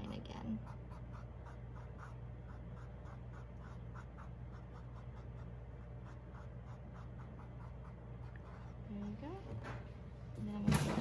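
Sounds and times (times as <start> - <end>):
steady low hum: 0.0 - 11.0
paintbrush scratching on canvas: 0.5 - 9.6.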